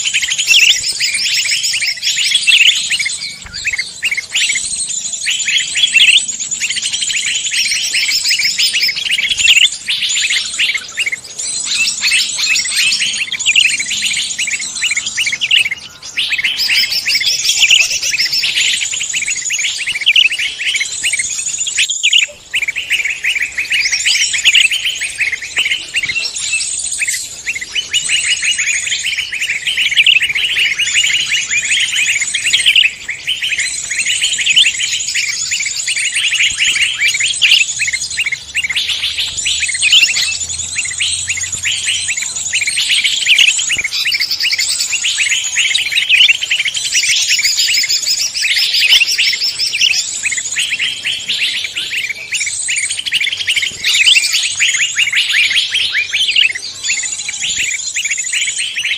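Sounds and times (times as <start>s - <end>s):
chorus of songbirds singing: 0.0s - 58.9s.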